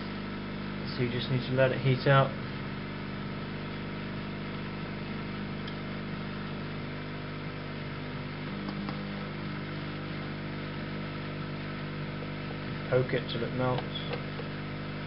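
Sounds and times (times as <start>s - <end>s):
hot air blower hum and hiss: 0.0s - 15.0s.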